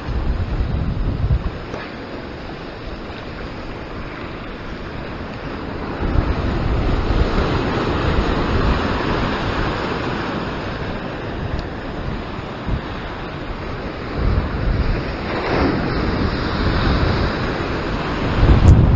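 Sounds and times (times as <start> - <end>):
surf breaking over rocks: 0.0 - 18.9
wind buffeting microphone: 0.0 - 18.9.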